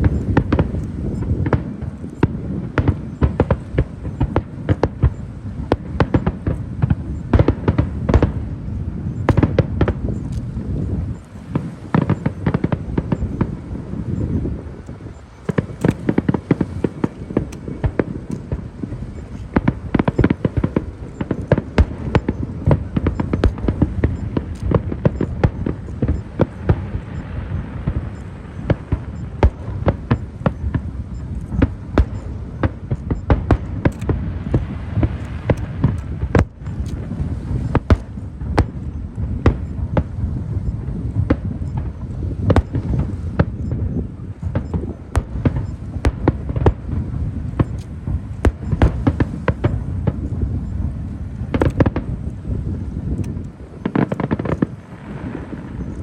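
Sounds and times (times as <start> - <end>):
fireworks bangs and crackles: 0.0 - 56.0
low rumble of bursts: 0.0 - 56.0.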